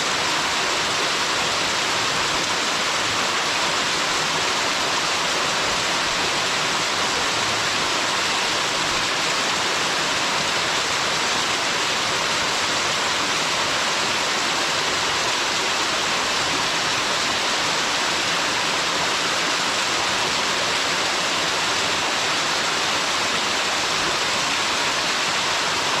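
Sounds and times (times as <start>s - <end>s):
waterfall crashing: 0.0s - 26.0s.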